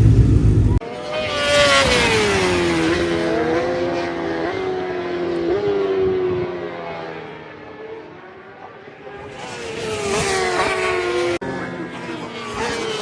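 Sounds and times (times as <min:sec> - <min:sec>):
superbike engine at high revs: 0:00.0 - 0:13.0.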